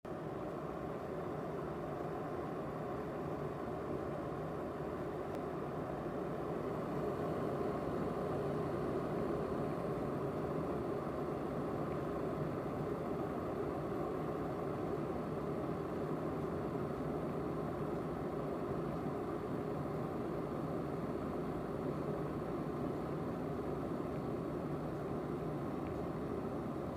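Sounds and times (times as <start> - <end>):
kettle heating water: 0.1 - 26.9.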